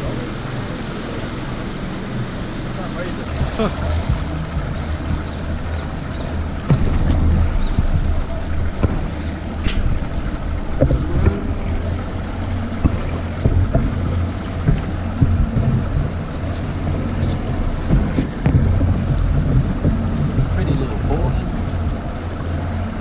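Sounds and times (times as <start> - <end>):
boat engine humming: 0.0 - 23.0
water washing along hull: 0.0 - 23.0
wind buffeting microphone: 0.0 - 23.0.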